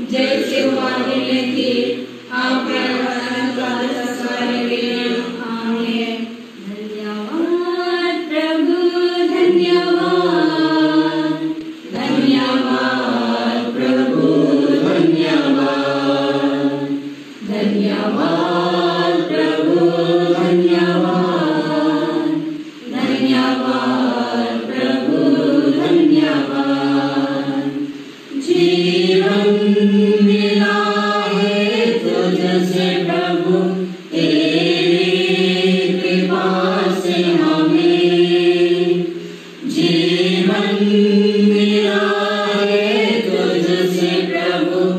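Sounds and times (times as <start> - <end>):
group singing a hymn: 0.0 - 44.9.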